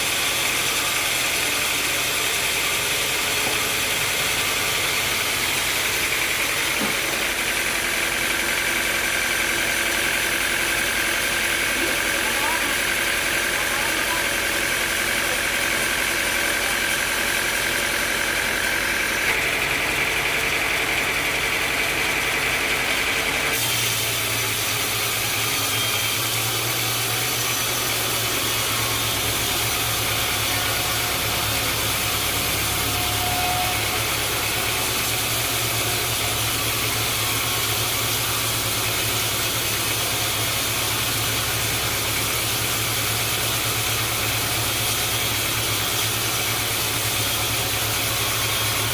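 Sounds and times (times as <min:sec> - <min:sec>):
sawmill machinery humming: 0:00.0 - 0:48.9.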